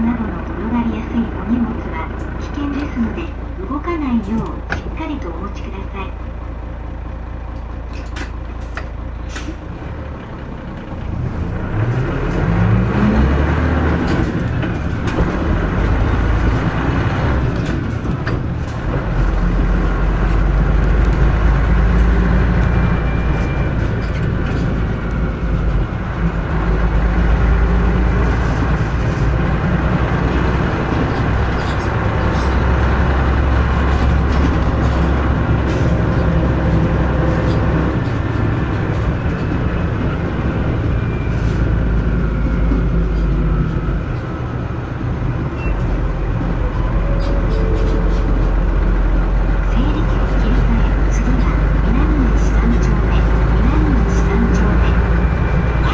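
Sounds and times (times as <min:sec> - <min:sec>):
bus engine accelerating: 0:00.0 - 0:55.9.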